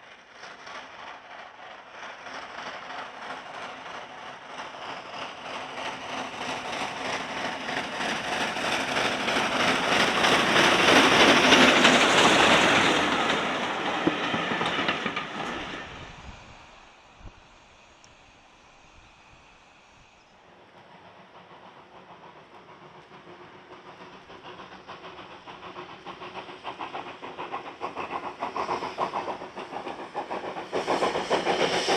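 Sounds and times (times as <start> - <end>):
train passing with rhythmic beat: 0.0 - 31.9.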